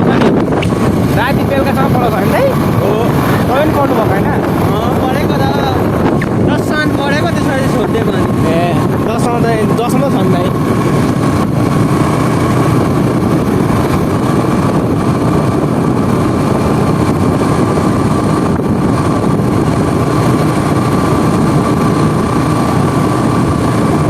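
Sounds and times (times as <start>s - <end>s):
motorbike engine running: 0.0s - 24.0s
wind rushing over microphone: 0.0s - 24.0s.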